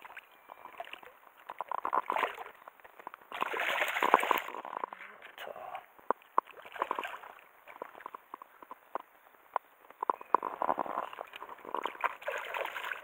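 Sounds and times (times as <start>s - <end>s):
water splashes and drips: 0.0s - 5.4s, 6.0s - 8.8s, 10.7s - 13.0s.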